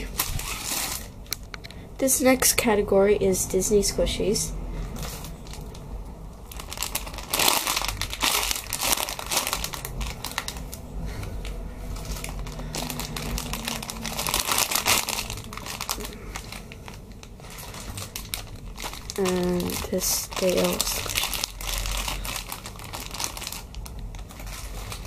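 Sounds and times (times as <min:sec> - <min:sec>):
plastic bags crinkling: 0:00.0 - 0:01.6, 0:04.9 - 0:25.0.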